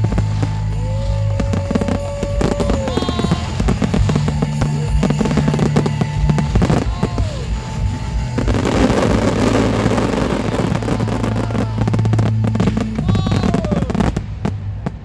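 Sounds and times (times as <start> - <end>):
show music with bass note: 0.0 - 14.2
fireworks bangs and crackles: 0.0 - 15.0.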